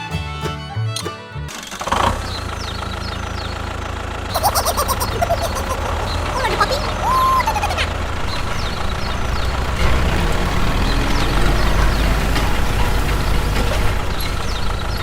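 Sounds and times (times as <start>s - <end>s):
motor humming: 1.5s - 15.0s.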